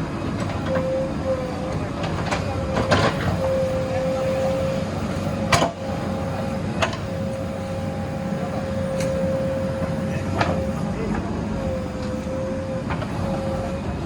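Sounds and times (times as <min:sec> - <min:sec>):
diesel engine running: 0:00.0 - 0:14.0
steady whine: 0:00.0 - 0:14.0.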